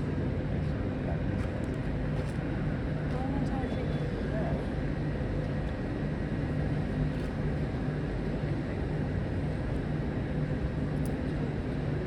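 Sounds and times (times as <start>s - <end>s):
diesel locomotive engines running: 0.0s - 12.0s.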